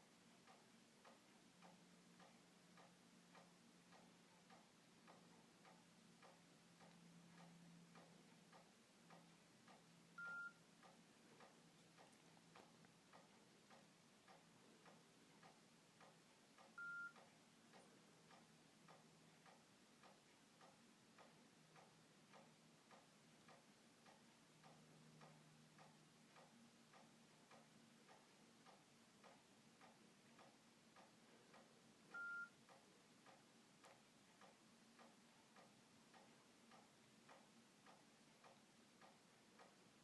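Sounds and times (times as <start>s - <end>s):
faint steady ticking: 0.0s - 40.0s.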